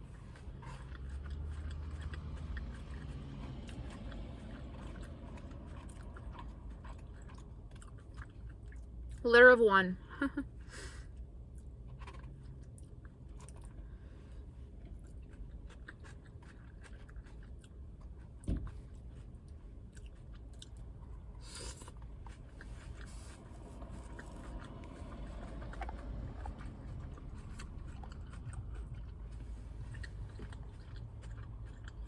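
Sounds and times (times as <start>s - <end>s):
person chewing lettuce: 0.0s - 9.2s, 11.1s - 32.0s.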